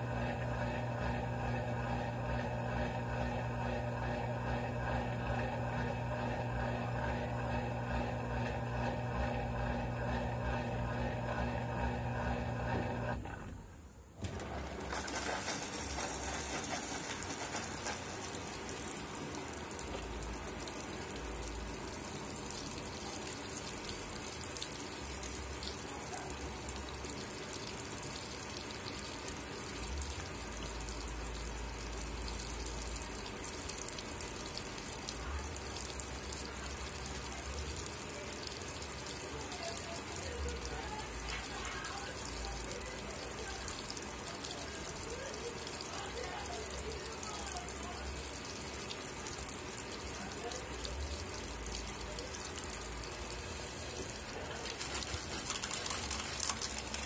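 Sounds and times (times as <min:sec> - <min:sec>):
washing machine hum: 0:00.0 - 0:57.0
water spraying into washer tub: 0:00.0 - 0:57.0.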